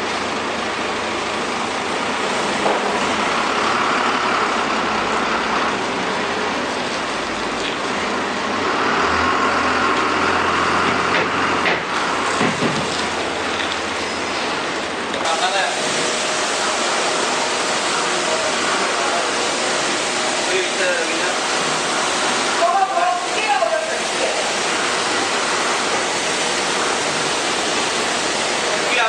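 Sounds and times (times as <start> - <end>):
heavy vehicle engine running: 0.0 - 29.0.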